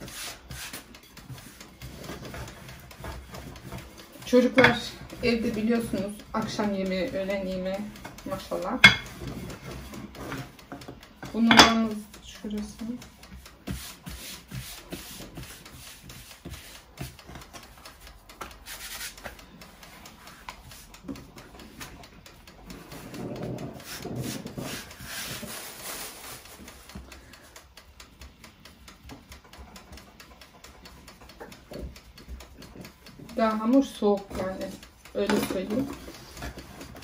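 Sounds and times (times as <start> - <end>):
dough rubbing and scraping by hand: 0.0 - 27.1, 32.5 - 37.0.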